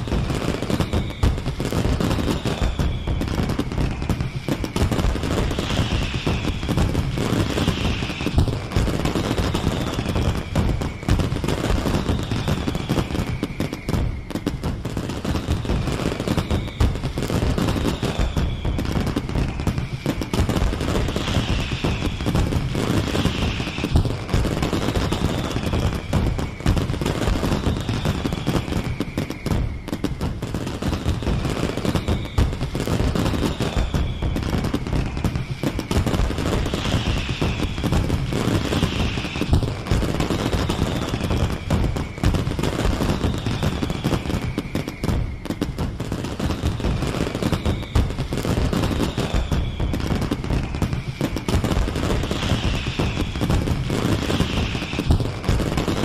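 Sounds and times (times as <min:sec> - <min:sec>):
falling firework whistle: 0:00.0 - 0:56.0
fireworks crackling and banging: 0:00.0 - 0:56.0.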